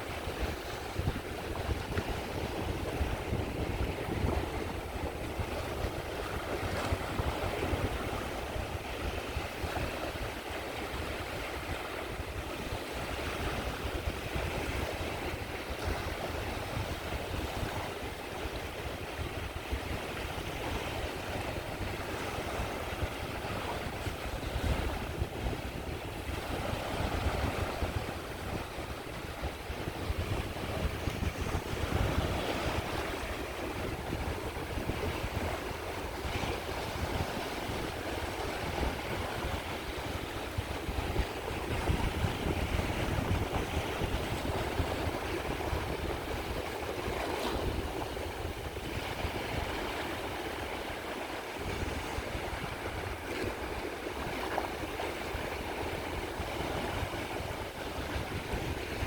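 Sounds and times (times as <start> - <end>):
waves washing onto shore: 0.0 - 59.0.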